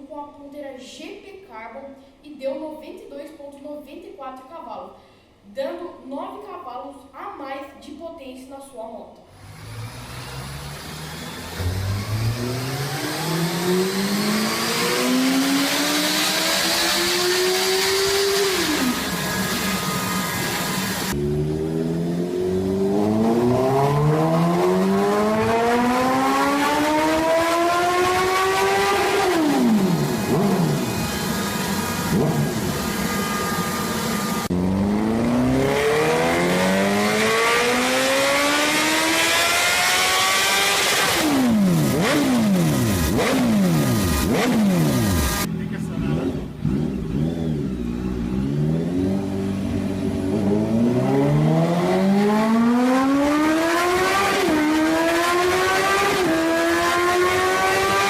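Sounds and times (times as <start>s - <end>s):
motorcycle engine revving: 9.3s - 58.0s.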